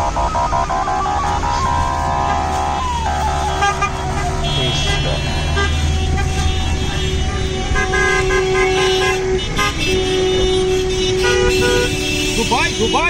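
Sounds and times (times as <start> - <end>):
car horns honking: 0.0 - 13.0.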